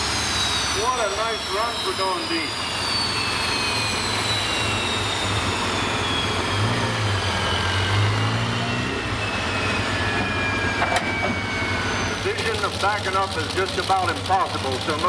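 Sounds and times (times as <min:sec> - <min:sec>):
low steady drone: 0:00.0 - 0:15.0
tractor engine winding down whine: 0:00.0 - 0:15.0.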